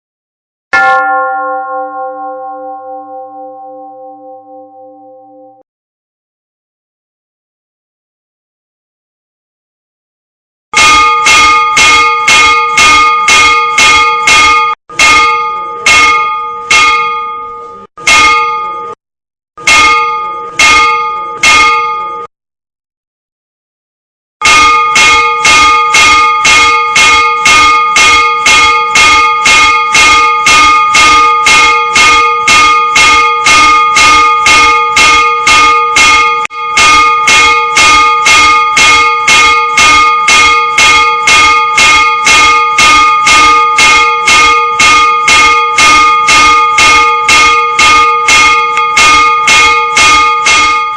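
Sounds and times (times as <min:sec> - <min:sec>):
church bell ringing: 0:00.7 - 0:05.6, 0:10.8 - 0:19.0, 0:19.6 - 0:22.3, 0:24.4 - 0:50.9.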